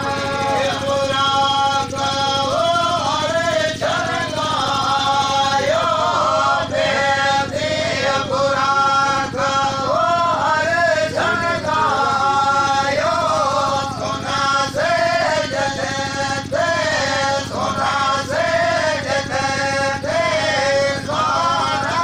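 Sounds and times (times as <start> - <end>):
men singing a chant: 0.0 - 22.0.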